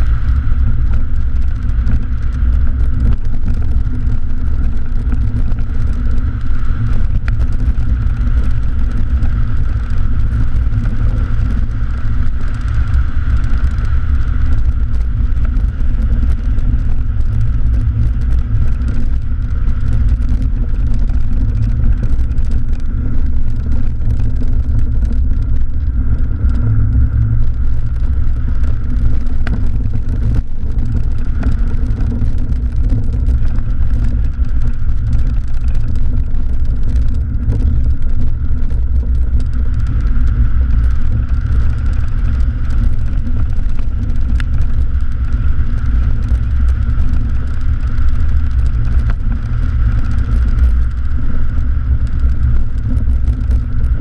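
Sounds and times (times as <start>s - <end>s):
car engine driving hard: 0.0s - 54.0s
loud low rumble: 0.0s - 54.0s.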